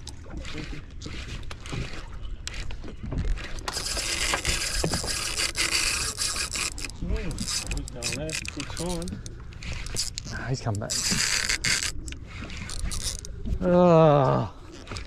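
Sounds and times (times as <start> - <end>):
fishing reel gears whirring: 0.0 - 13.7.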